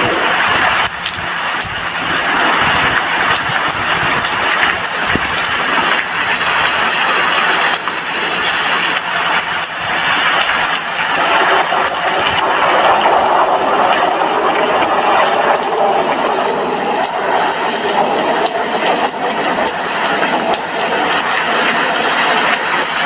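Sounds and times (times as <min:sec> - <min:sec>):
sharp rain taps: 0:00.0 - 0:23.0
steady rain hiss: 0:00.0 - 0:23.0.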